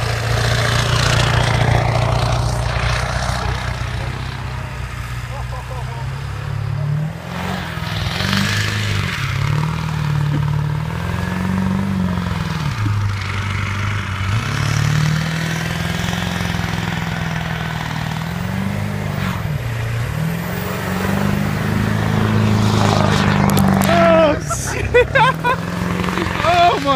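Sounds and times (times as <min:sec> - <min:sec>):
diesel engine revving: 0:00.0 - 0:26.9.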